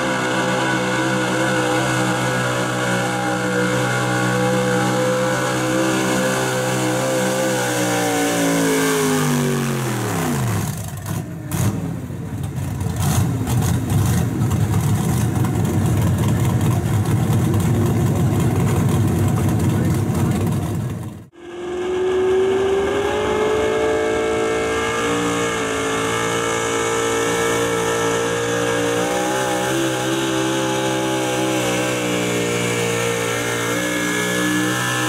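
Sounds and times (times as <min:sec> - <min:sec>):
truck engine revving and idling rough: 0:00.0 - 0:35.0.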